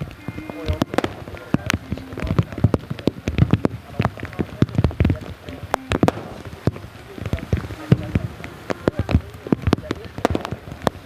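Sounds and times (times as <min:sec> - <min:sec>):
heavy rain: 0:00.0 - 0:11.0
raindrop impacts close by: 0:00.0 - 0:11.0.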